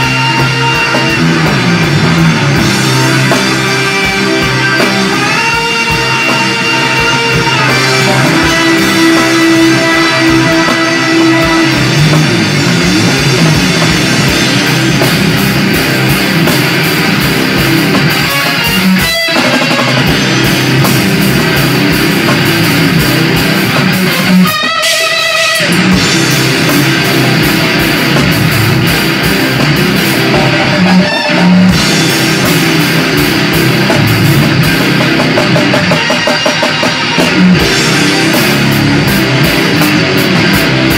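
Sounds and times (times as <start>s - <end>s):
heavy rock guitar and drums: 0.0s - 40.9s.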